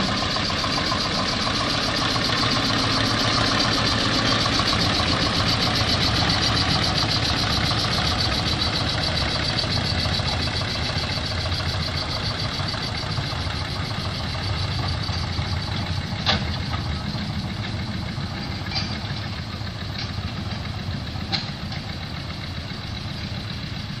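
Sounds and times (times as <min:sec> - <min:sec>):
diesel locomotive running: 0:00.0 - 0:24.0.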